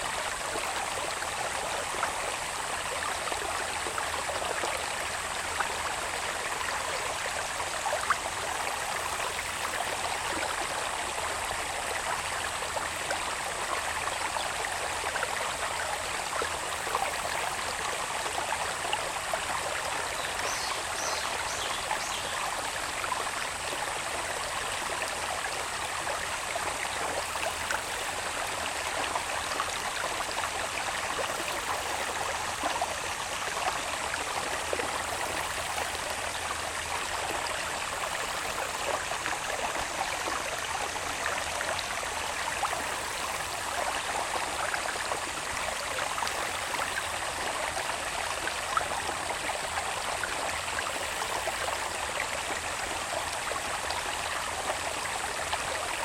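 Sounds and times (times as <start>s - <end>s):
water babbling in channel: 0.0s - 56.0s.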